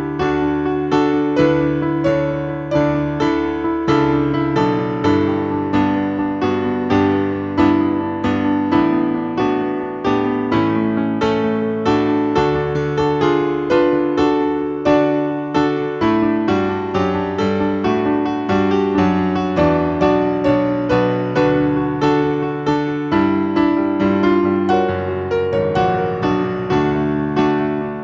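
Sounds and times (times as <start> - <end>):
solo piano chords: 0.0 - 28.0.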